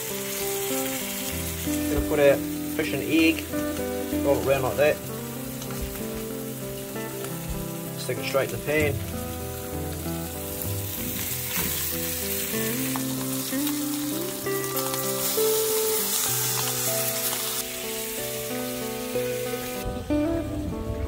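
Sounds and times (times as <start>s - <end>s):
fish frying in a pan: 0.0s - 20.6s.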